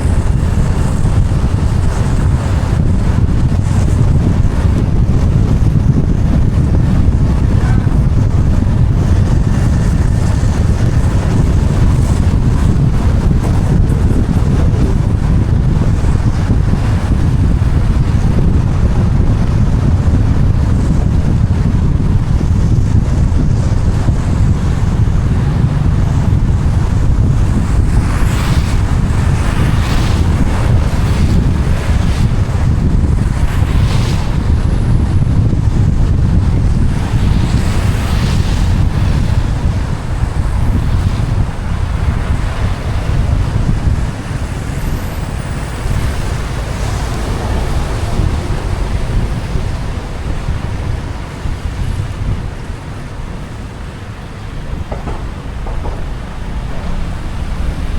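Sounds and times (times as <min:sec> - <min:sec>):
road and wind noise: 0:00.0 - 0:57.9
tyres swishing on wet road: 0:00.0 - 0:57.9
wind buffeting microphone: 0:00.0 - 0:57.9.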